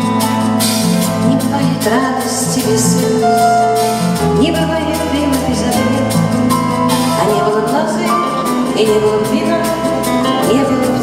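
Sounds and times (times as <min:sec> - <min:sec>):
pop band music: 0:00.0 - 0:11.0.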